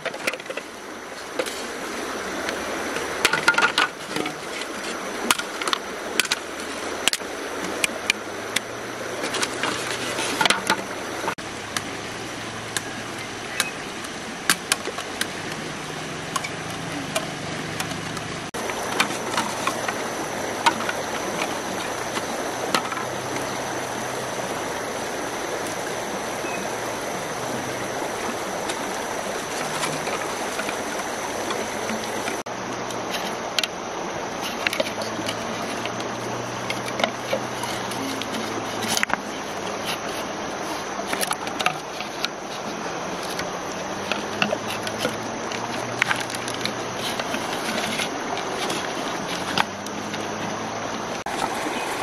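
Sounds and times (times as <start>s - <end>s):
river flowing: 0.0s - 52.0s.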